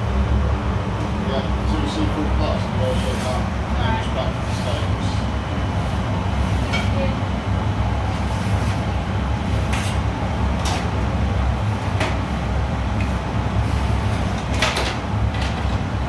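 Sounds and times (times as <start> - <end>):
kitchen equipment rumble: 0.9 - 16.0.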